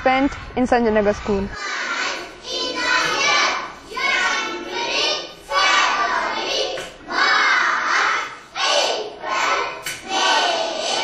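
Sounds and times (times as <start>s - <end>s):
children's voices: 0.0s - 11.0s.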